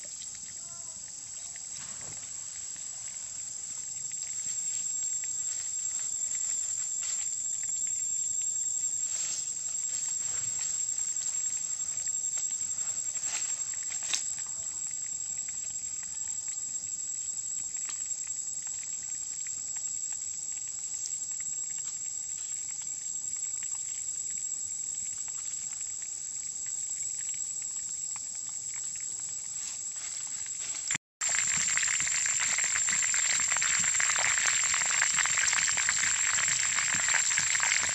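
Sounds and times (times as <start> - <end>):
high-pitched insect drone: 0.0 - 25.8, 26.4 - 37.9.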